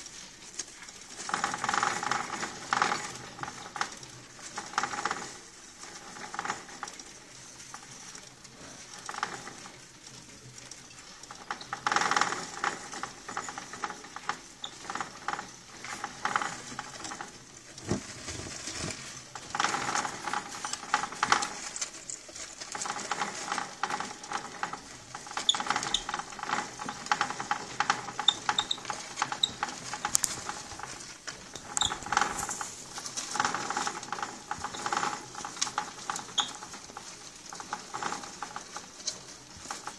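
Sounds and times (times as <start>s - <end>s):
hamster wheel spinning and rattling: 0.0s - 39.9s
hamsters scrabbling in shavings: 0.0s - 39.9s.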